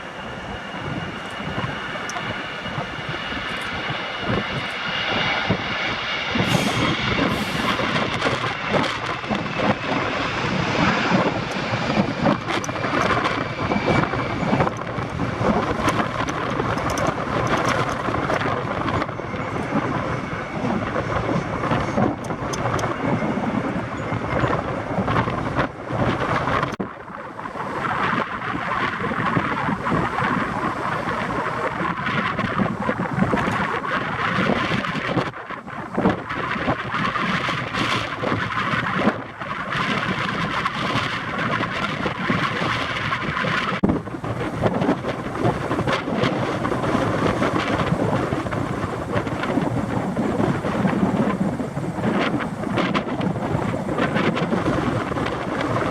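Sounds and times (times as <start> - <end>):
jet engines rumbling: 0.0 - 55.9
wind buffeting microphone: 0.0 - 55.9.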